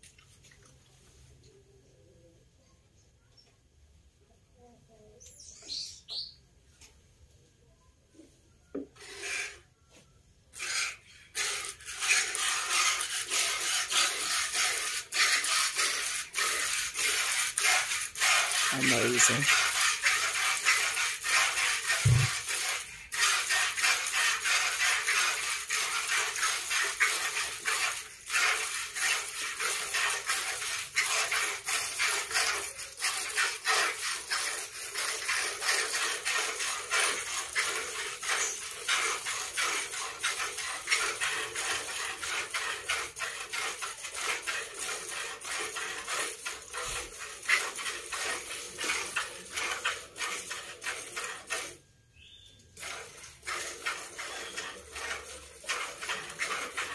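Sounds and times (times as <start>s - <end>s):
milk squirting into bucket: 10.5s - 56.9s.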